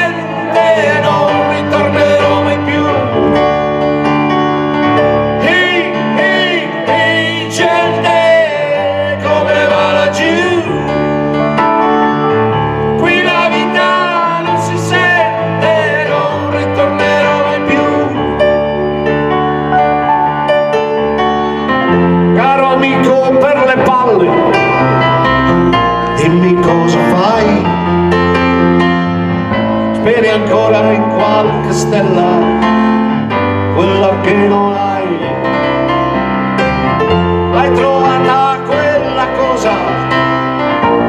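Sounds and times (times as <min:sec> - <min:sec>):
piano and keyboard pop music: 0:00.0 - 0:41.0.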